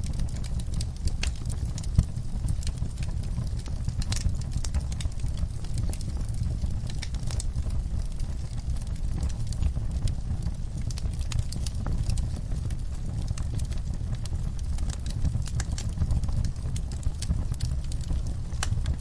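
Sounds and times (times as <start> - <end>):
logs crackling and popping: 0.0 - 19.0
low rumble of flame: 0.0 - 19.0.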